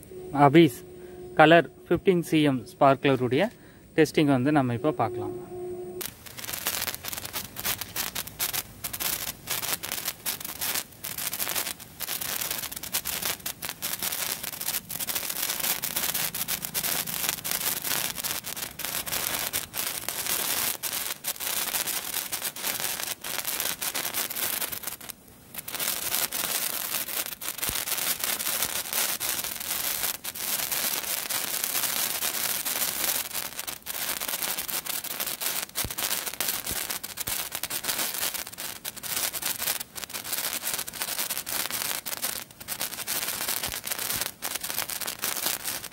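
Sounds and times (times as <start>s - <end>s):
sparkler crackling and hissing: 6.0s - 45.9s.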